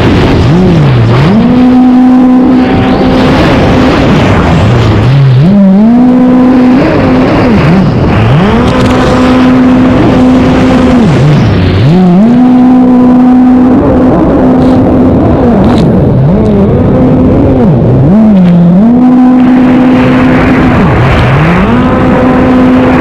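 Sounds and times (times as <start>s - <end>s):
loud engine revving: 0.0s - 23.0s.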